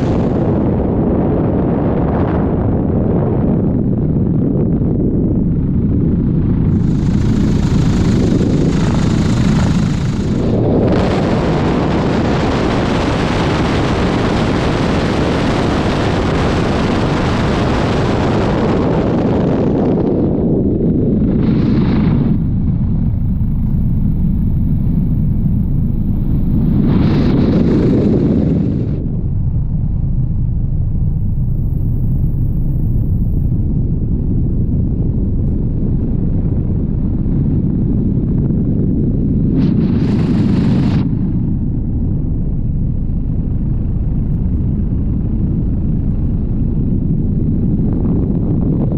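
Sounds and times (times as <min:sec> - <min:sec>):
helicopter rumble: 0:00.0 - 0:48.9
wind buffeting microphone: 0:00.0 - 0:48.9.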